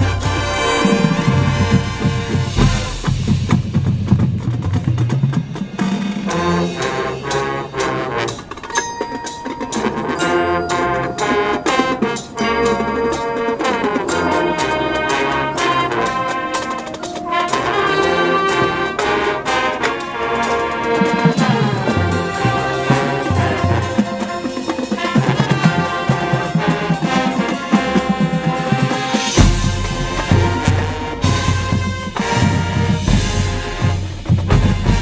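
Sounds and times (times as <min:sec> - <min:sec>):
brass section playing: 0:00.0 - 0:04.1, 0:06.1 - 0:08.8, 0:09.4 - 0:35.0
drums and percussion: 0:00.0 - 0:35.0
sharp percussion hits: 0:00.0 - 0:35.0.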